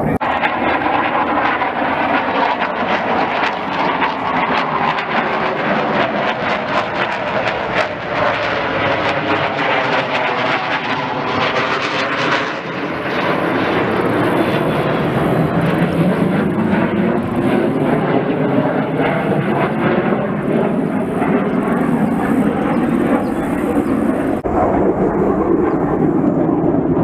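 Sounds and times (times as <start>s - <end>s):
aircraft passing overhead: 0.0s - 27.0s.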